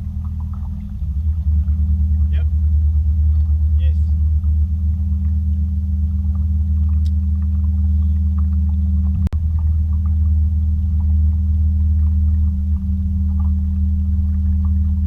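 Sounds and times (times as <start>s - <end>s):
boat motor drone: 0.0s - 15.0s.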